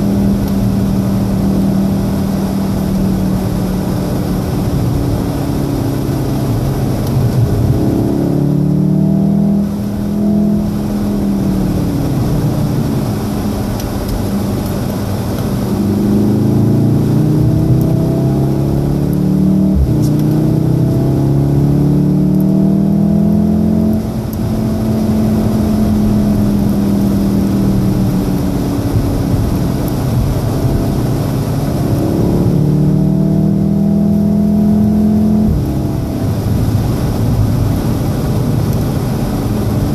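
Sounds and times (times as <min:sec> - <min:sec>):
car engine accelerating: 0:00.0 - 0:39.9
tyre and road noise: 0:00.0 - 0:39.9.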